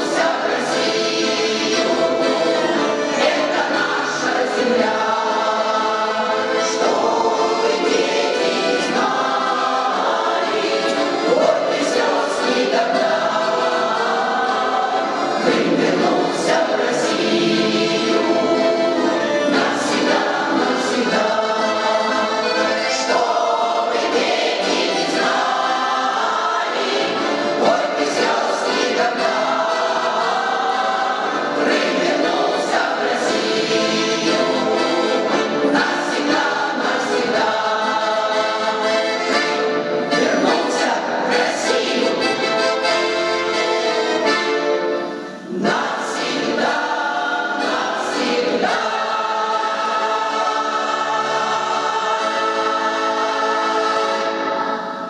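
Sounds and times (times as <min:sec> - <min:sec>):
choir singing: 0:00.0 - 0:55.0
musical accompaniment: 0:00.0 - 0:55.0.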